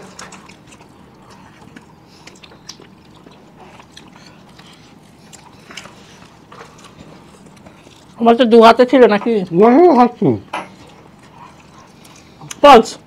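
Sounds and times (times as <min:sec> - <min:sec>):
pizza crunching while chewed: 0:00.0 - 0:08.6, 0:09.4 - 0:13.0.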